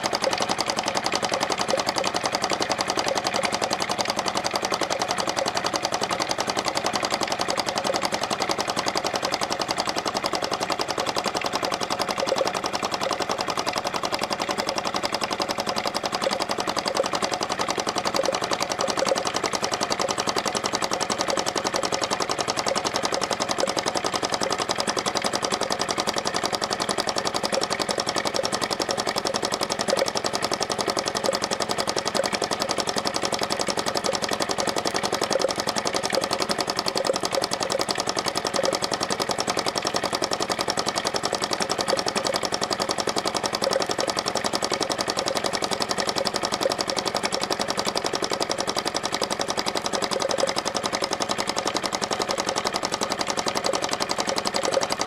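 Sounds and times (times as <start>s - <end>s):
model engine knocking: 0.0s - 55.0s.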